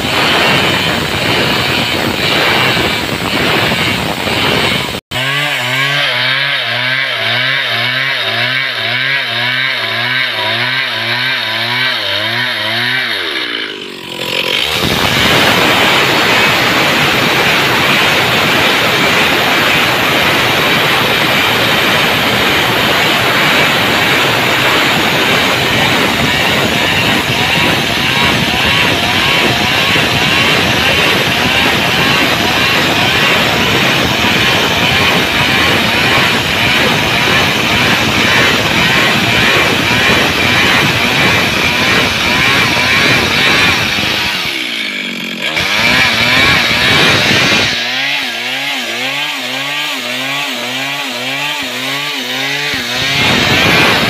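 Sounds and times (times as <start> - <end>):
chainsaw cutting timber: 0.0 - 54.0.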